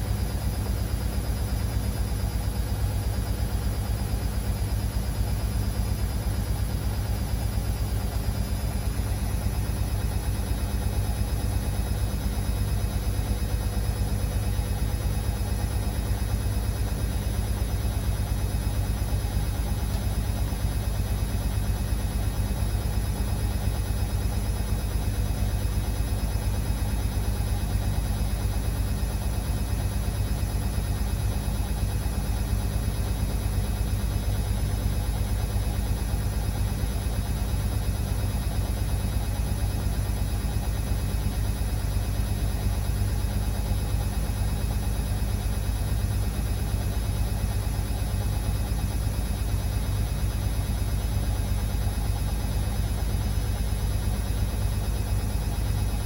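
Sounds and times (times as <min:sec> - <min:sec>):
washing machine droning: 0:00.0 - 0:56.0.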